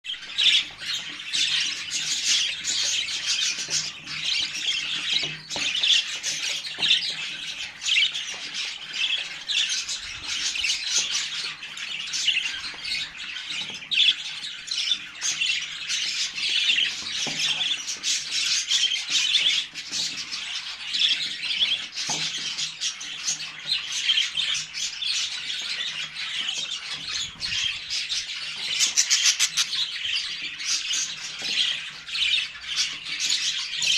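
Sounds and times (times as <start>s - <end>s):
budgerigar chicks calling: 0.1s - 33.9s.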